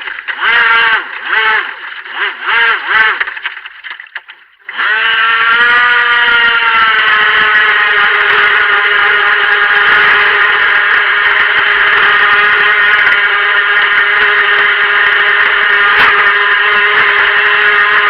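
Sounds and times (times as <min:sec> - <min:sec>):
electric motor whining: 0:00.0 - 0:03.3, 0:04.7 - 0:18.0.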